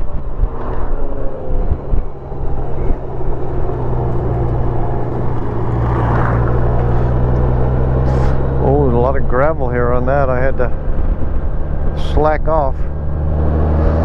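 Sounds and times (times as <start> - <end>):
wind and road noise: 0.0 - 14.0
motorcycle engine running: 0.2 - 14.0.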